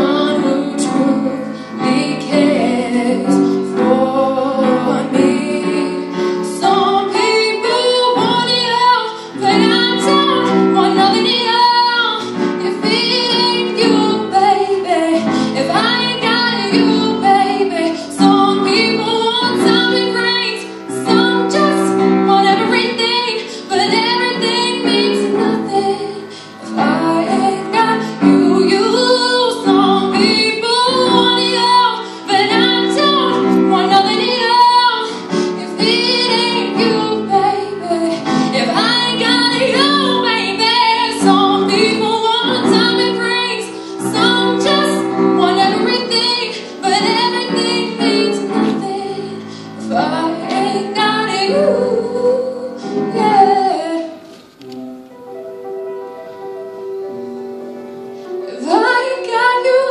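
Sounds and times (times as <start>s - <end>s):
girl singing into a microphone: 0.0s - 54.8s, 58.2s - 59.9s
piano playing chords: 0.0s - 59.9s.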